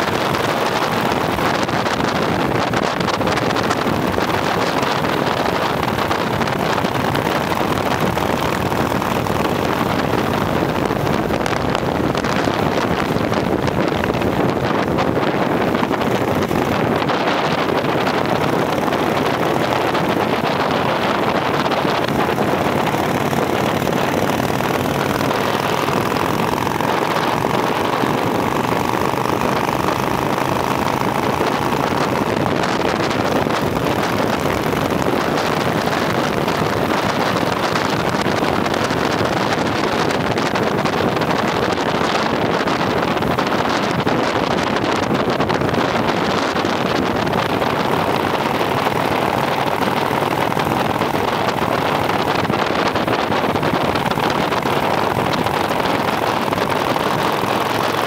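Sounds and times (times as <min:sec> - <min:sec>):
motorcycle engine drone: 0:00.0 - 0:58.0
wind rush on microphone: 0:00.0 - 0:58.0.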